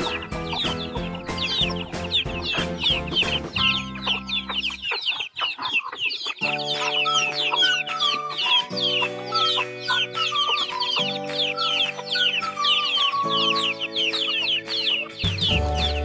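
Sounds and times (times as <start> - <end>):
music of held chords: 0.0 - 4.9, 6.4 - 16.0
chicks cheeping: 0.0 - 16.0.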